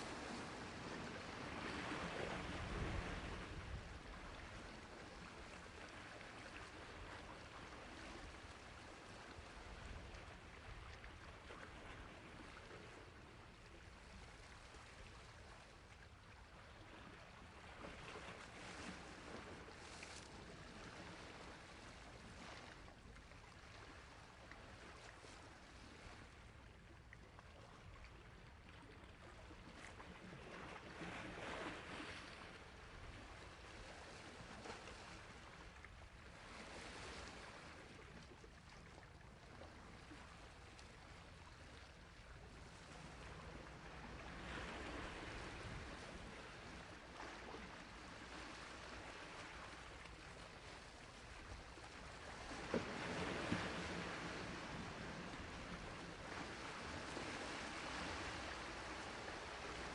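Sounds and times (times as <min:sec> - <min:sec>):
faint sea waves on shore: 0:00.0 - 0:59.9.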